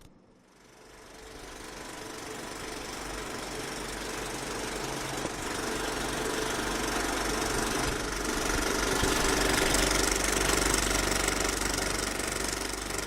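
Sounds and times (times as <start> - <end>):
three-d printer motors buzzing: 1.2 - 11.8.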